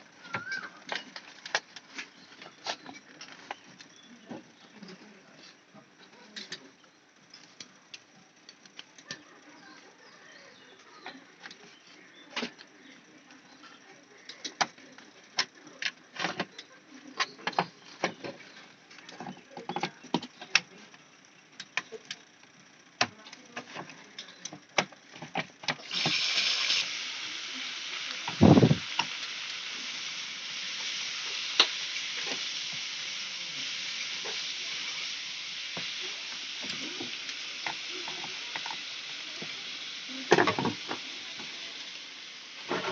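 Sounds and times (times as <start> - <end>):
steady hiss: 0.0 - 42.9.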